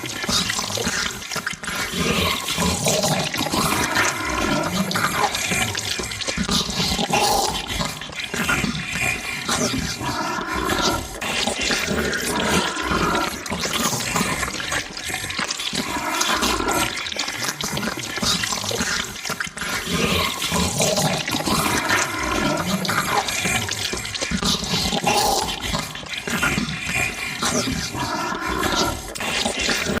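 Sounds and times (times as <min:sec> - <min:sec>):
pitched gurgle: 0:00.0 - 0:30.0
wet sloppy gurgling and slurping: 0:00.0 - 0:30.0.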